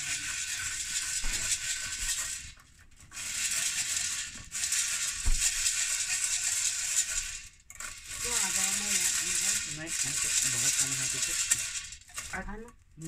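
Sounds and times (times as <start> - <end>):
kernels rattling in metal pot: 0.0 - 13.0.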